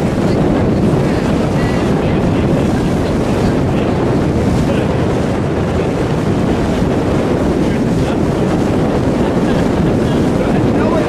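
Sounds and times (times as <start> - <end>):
water washing against hull: 0.0 - 11.0
wind buffeting microphone: 0.0 - 11.0.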